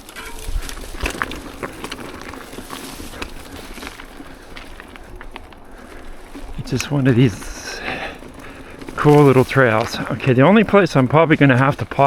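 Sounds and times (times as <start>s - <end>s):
bike clicks and rattles: 0.0s - 12.0s
bike tyre noise on dirt: 0.0s - 12.0s
heavy thumps of bike: 0.0s - 12.0s.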